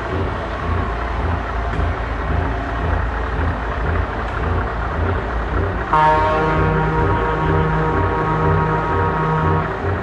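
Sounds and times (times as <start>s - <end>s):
diesel truck engines idling: 0.0s - 10.0s.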